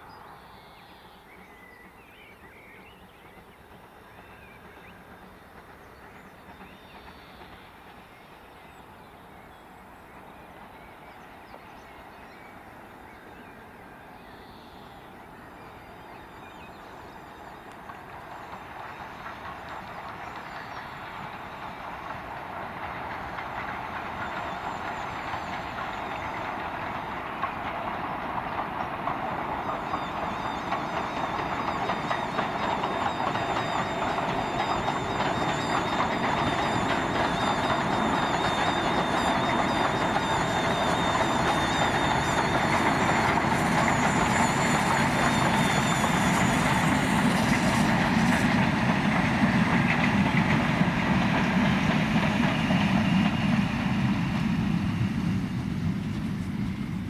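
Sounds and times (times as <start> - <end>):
train running along tracks: 0.0 - 57.0.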